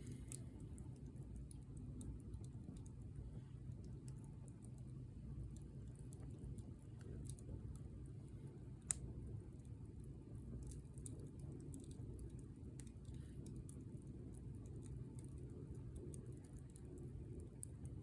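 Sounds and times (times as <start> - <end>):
bonfire wood crackling: 0.0 - 18.0
low steady rumble: 0.0 - 18.0.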